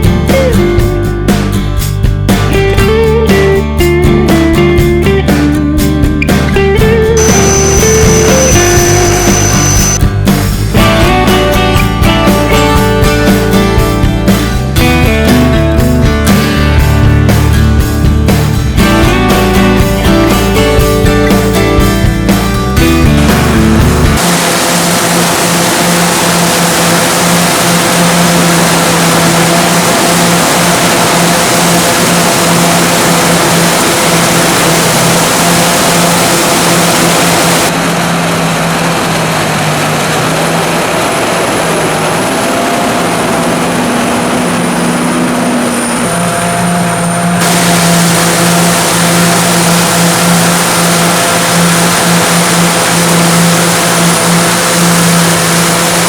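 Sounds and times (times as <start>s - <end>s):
combine harvester running: 4.1s - 56.0s.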